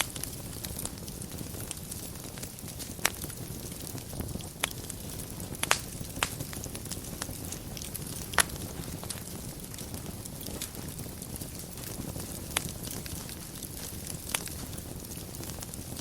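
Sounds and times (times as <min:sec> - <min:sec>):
fire crackling and popping: 0:00.0 - 0:16.0
fire rumble and hiss: 0:00.0 - 0:16.0.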